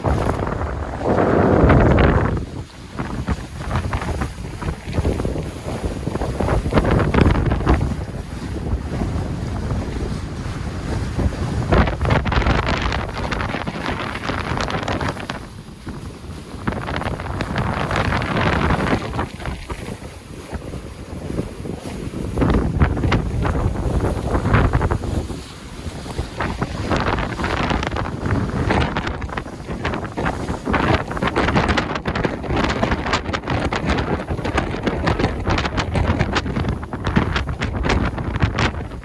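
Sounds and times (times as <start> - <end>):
water rushing past hulls: 0.0 - 39.0
wind buffeting microphone: 0.0 - 39.0.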